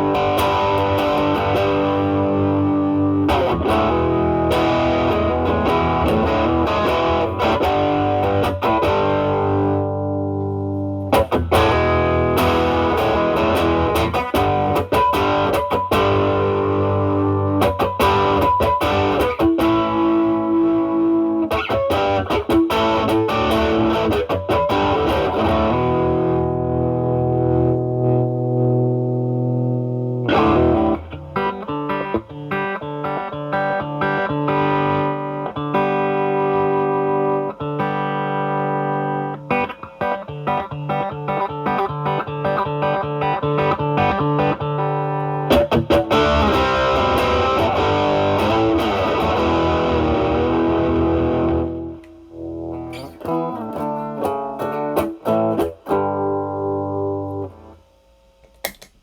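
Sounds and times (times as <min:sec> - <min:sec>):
overdriven electric guitar: 0:00.0 - 0:57.8.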